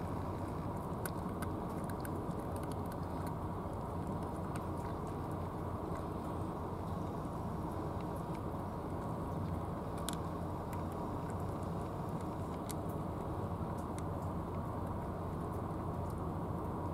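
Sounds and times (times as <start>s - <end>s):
cat crunching kibble: 0.0s - 16.3s
low background rumble: 0.0s - 16.9s.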